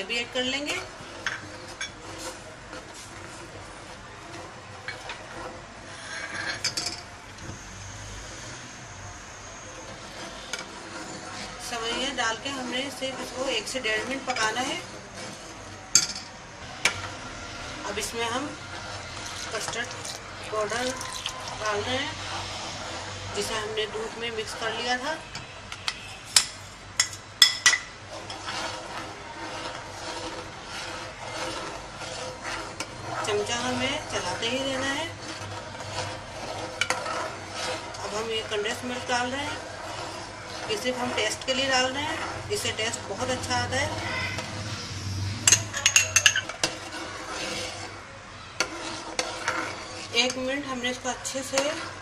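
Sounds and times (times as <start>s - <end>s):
metal ladle scraping metal pot: 0.0s - 52.0s.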